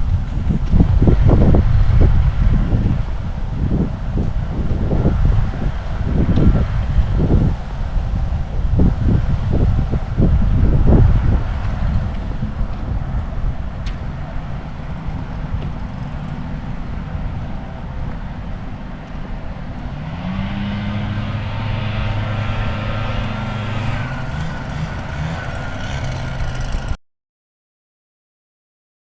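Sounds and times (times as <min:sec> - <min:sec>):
low motor hum: 0:00.0 - 0:27.0
low rumbling noise: 0:00.0 - 0:27.0.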